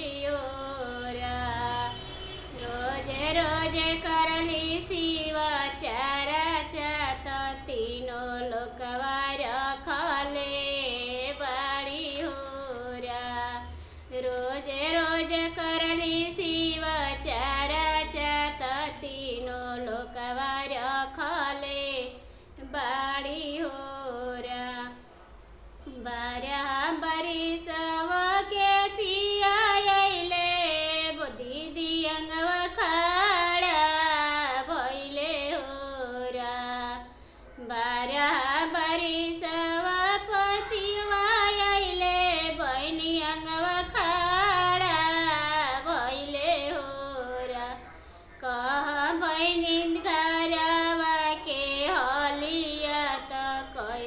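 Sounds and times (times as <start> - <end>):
woman singing devotional song: 0.0 - 25.2, 25.8 - 54.0.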